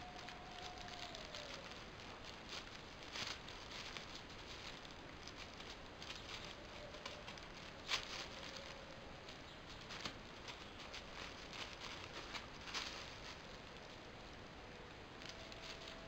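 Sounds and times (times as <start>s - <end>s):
plastic bag crinkling and rustling: 0.0s - 16.0s.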